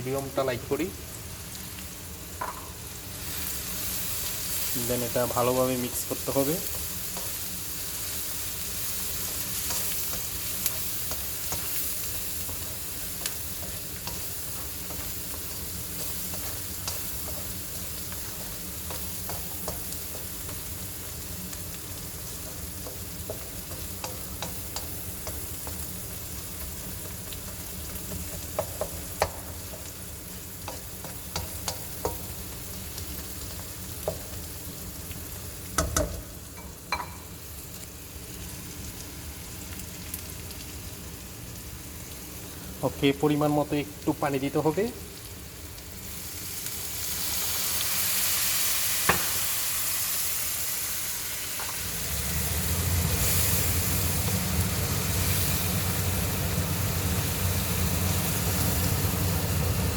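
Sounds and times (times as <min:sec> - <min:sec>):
onions sizzling in oil: 0:00.0 - 0:59.9.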